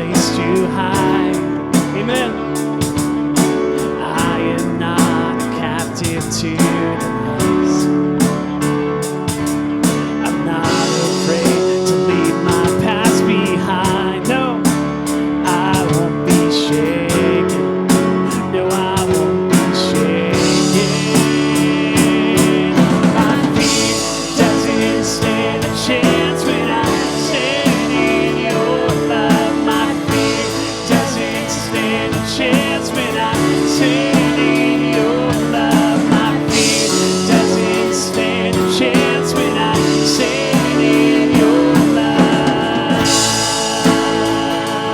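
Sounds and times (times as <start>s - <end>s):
voices singing: 0.0s - 8.4s, 9.3s - 44.9s
guitar: 0.0s - 44.9s
worship band playing: 0.0s - 44.9s.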